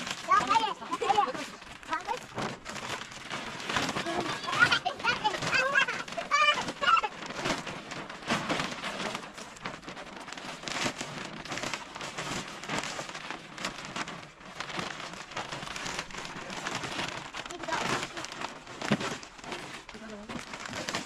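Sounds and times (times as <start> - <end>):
plastic sheet rustling and crackling: 0.0 - 21.0.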